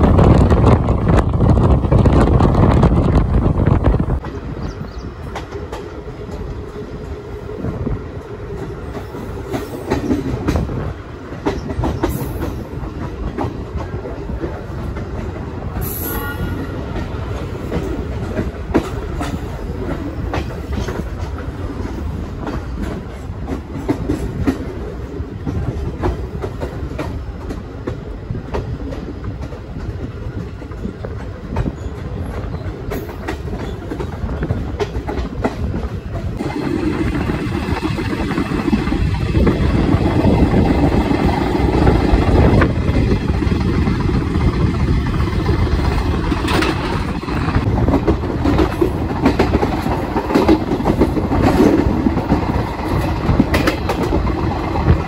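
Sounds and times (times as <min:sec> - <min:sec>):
train rumbling on rails: 0:00.0 - 0:55.0
wheels clacking over rail joints: 0:04.1 - 0:55.0.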